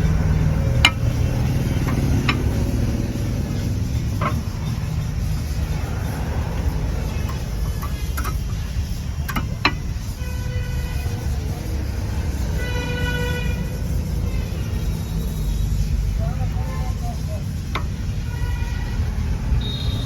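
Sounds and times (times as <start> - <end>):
horn sounding: 0.0 - 16.3, 17.9 - 20.0
steady low rumble: 0.0 - 19.8.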